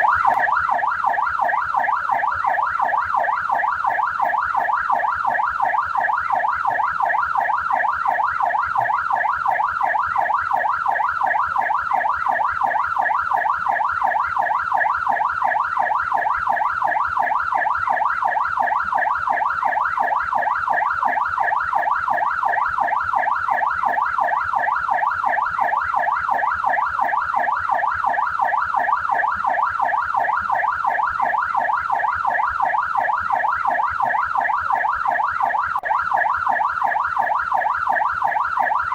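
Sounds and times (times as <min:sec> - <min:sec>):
police siren yelping: 0:00.0 - 0:38.9.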